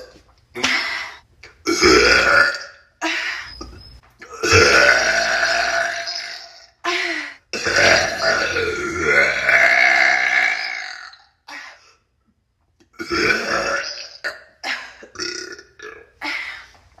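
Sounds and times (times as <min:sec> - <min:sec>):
woman burping: 0:00.0 - 0:02.9, 0:03.5 - 0:12.0, 0:13.0 - 0:16.6.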